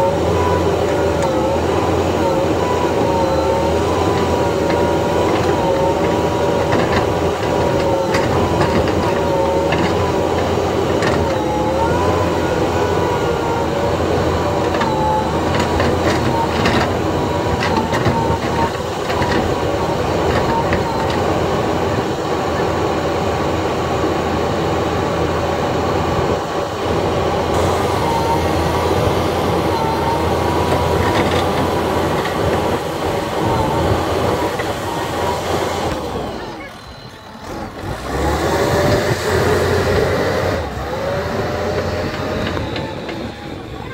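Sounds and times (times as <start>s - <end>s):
wavering squealing tones: 0.0s - 22.7s, 27.5s - 43.9s
diesel engine under load: 0.0s - 43.9s.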